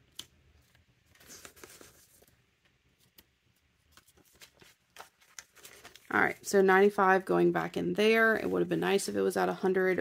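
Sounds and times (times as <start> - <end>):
banknotes rustling: 0.0 - 10.0.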